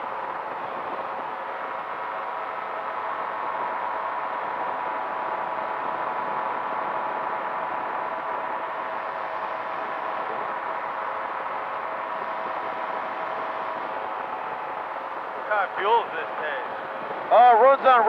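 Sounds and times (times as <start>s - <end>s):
engine and propeller droning: 0.0s - 18.0s
faint steady hum: 0.0s - 18.0s.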